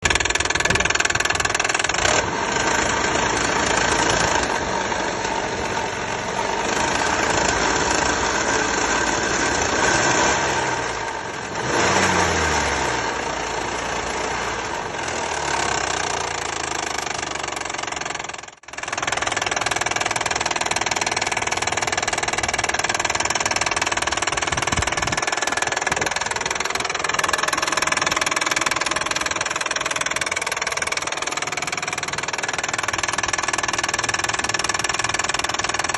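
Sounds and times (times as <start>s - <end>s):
car engine running with knock: 0.0s - 35.9s.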